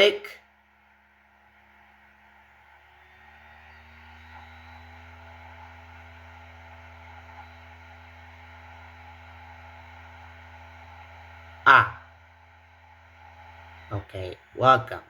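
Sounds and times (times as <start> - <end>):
disc drive whirring: 1.6 - 15.0.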